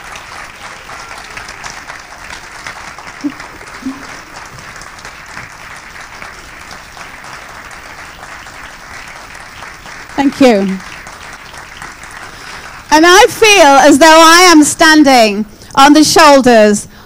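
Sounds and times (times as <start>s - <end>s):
audience applauding: 0.0s - 14.3s
crowd calls: 0.0s - 14.3s.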